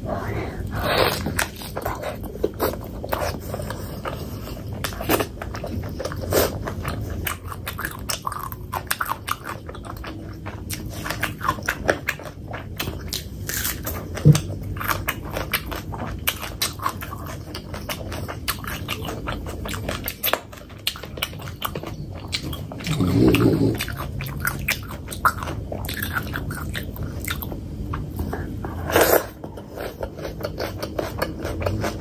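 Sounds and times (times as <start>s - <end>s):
wet chewing with mouth clicks: 0.2s - 32.0s.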